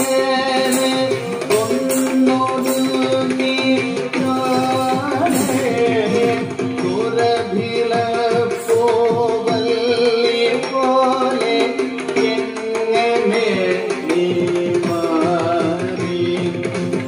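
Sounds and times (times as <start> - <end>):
mridangam drum strokes: 0.0 - 17.0
person singing: 0.0 - 17.0.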